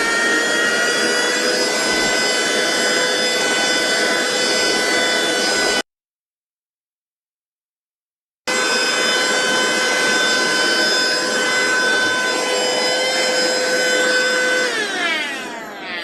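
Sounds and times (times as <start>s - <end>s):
handheld vacuum cleaner motor whining: 0.0s - 5.9s, 8.5s - 16.0s.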